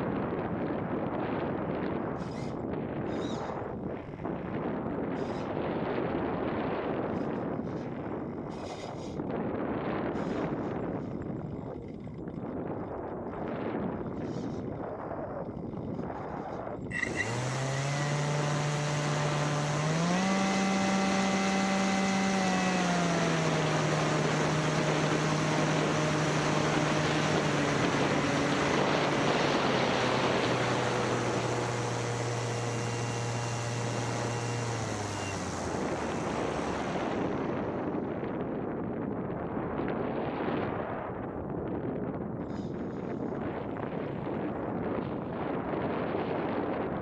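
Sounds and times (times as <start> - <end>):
paramotor engine: 0.0 - 40.7
wind and propeller rush: 0.0 - 47.0.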